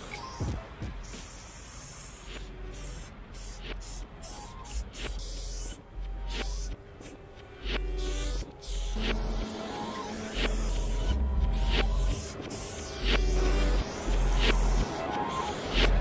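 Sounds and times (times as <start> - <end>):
spray paint can hissing: 0.0 - 6.8, 7.6 - 16.0.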